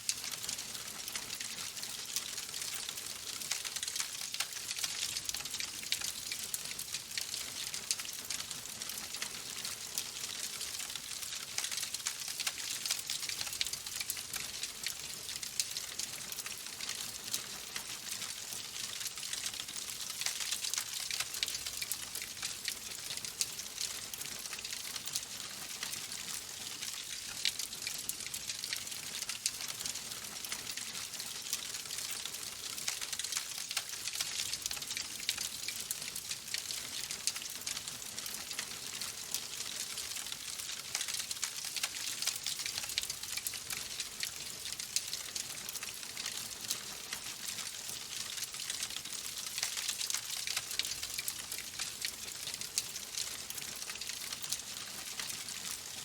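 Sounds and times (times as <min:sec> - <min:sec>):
wood fire crackling: 0:00.1 - 0:56.0.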